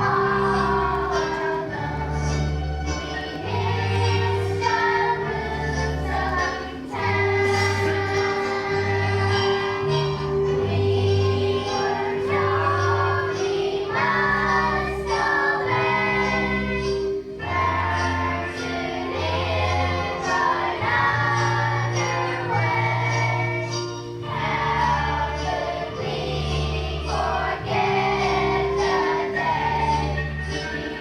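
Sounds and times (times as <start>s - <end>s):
children's choir singing: 0.0s - 31.0s
instrumental accompaniment with bass: 0.0s - 31.0s.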